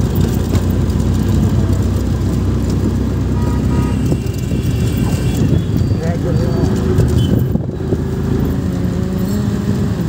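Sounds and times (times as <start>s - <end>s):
auto-rickshaw engine rumble: 0.0s - 10.0s
road noise: 0.0s - 10.0s.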